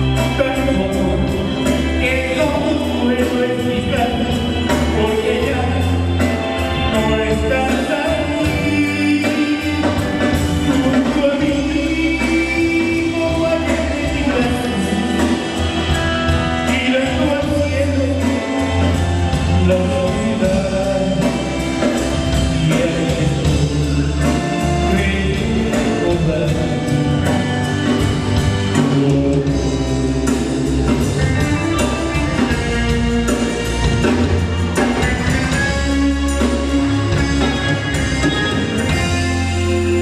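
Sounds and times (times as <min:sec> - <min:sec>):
drums: 0:00.0 - 0:40.0
live band music: 0:00.0 - 0:40.0
man singing: 0:00.0 - 0:40.0.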